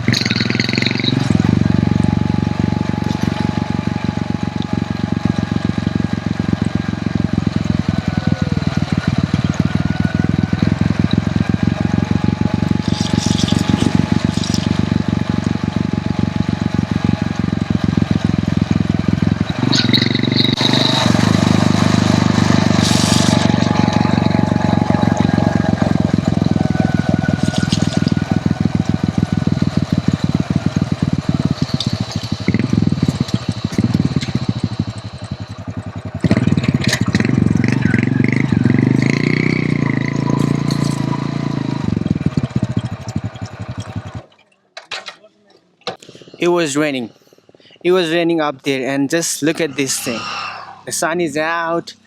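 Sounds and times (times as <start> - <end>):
motorcycle engine running: 0.0 - 44.4.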